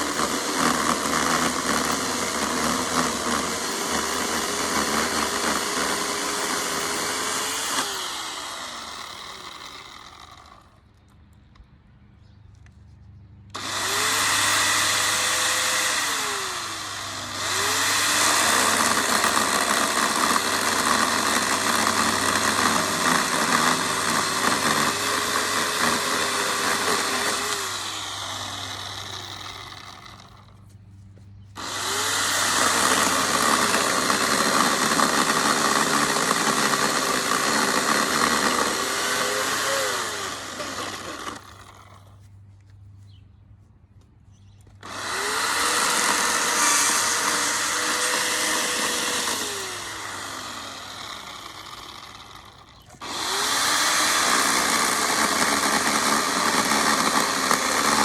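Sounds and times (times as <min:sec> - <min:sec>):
chainsaw cutting wood: 0:00.0 - 0:10.8, 0:13.5 - 0:30.6, 0:31.6 - 0:42.3, 0:44.8 - 0:58.0.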